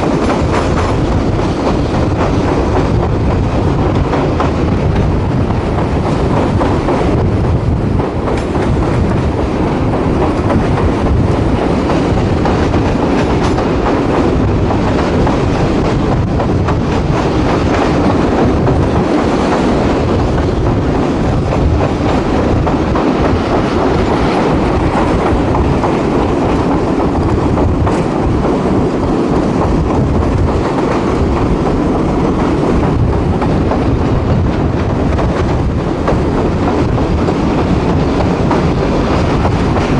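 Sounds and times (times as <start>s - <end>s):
railcar rumble: 0.0s - 39.9s
wheels clacking over rails: 0.0s - 39.9s.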